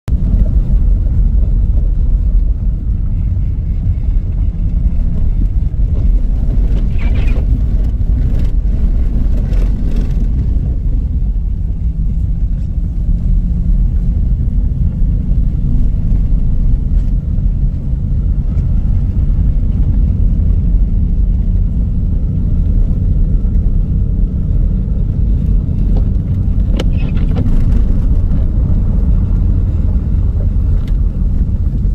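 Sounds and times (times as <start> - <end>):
vehicle engine rumble: 0.0 - 31.9.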